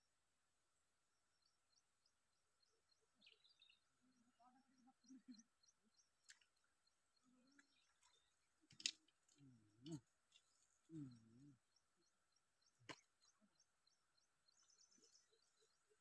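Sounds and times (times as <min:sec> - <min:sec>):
faint bird chirps: 0:01.3 - 0:16.0.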